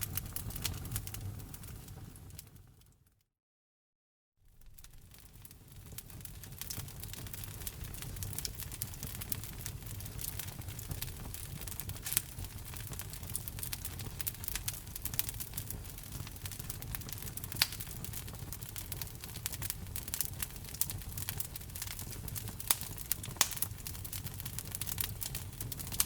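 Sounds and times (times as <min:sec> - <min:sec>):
fire popping: 0:00.0 - 0:02.8, 0:04.5 - 0:26.0
wood fire crackling: 0:00.0 - 0:02.9, 0:04.5 - 0:26.0.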